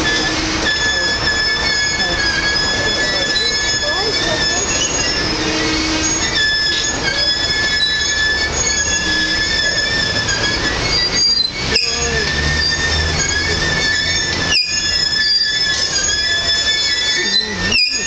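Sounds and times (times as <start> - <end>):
low rumble of rolling train: 0.0 - 18.0
train wheels squealing: 0.0 - 18.0.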